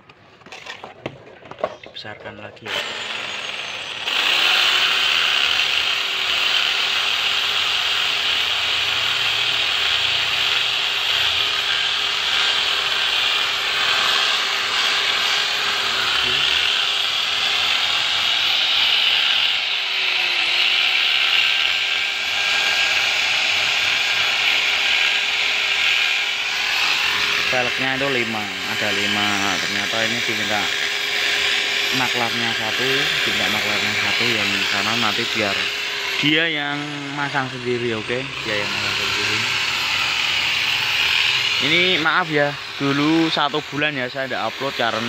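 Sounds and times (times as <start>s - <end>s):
electric drill drilling metal: 2.6s - 45.0s.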